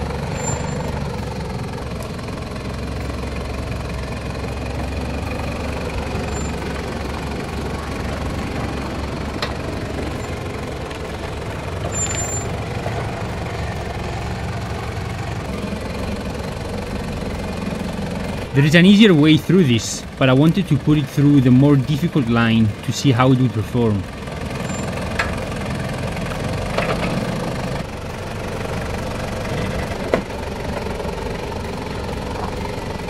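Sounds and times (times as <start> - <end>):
engine running at low revs: 0.0 - 33.0.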